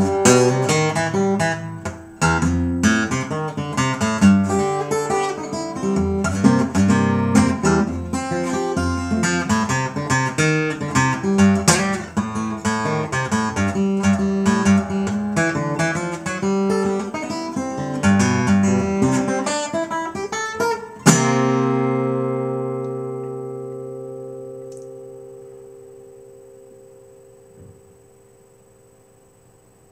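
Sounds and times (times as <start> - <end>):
fingerpicked acoustic guitar: 0.0 - 29.2.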